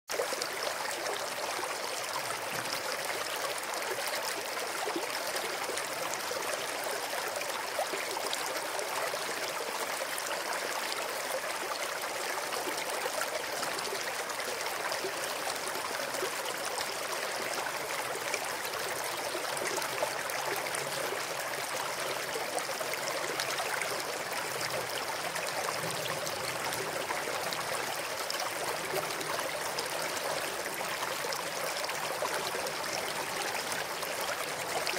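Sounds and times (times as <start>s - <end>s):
stream flowing over rocks: 0.1s - 34.9s.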